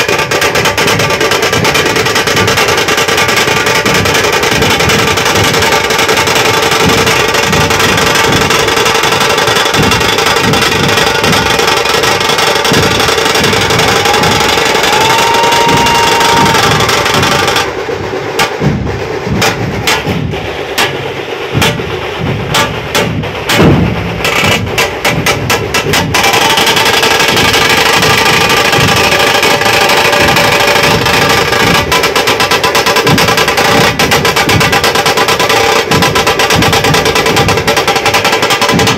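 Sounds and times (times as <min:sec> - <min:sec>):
cymbals: 0:00.0 - 0:38.9
dhol drum beats: 0:00.0 - 0:38.9
tasha drum rolls and cracks: 0:00.0 - 0:38.9.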